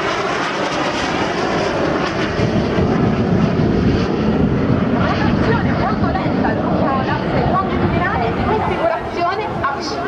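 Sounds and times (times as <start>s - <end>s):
jet engine noise: 0.0s - 10.0s.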